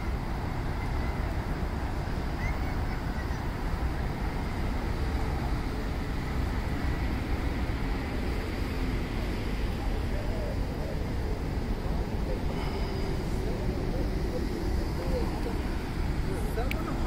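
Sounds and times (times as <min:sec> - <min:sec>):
large fans rushing air: 0:00.0 - 0:17.0.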